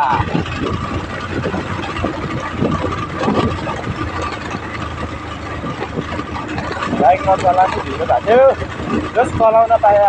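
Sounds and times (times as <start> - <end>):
knocks and rattles from bumpy road: 0.0 - 10.0
motorcycle engine running: 0.0 - 10.0.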